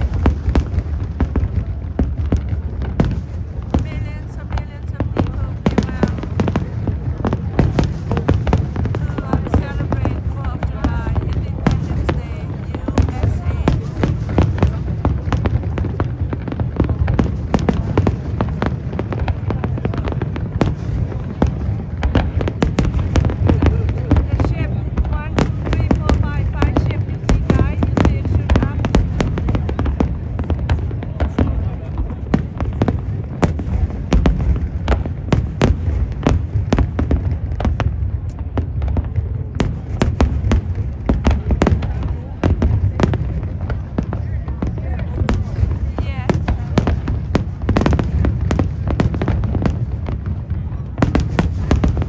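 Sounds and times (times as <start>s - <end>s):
fireworks sharp bangs: 0.0s - 52.0s
low rumble of booms: 0.0s - 52.0s.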